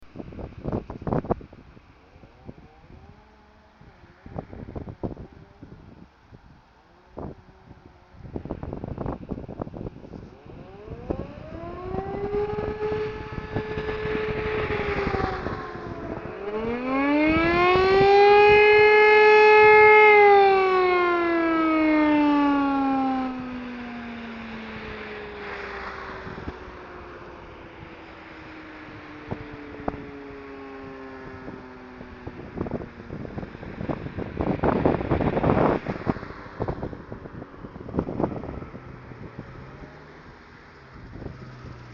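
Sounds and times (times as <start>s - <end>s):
electric motor sirens wailing: 1.2s - 6.1s, 6.7s - 41.9s.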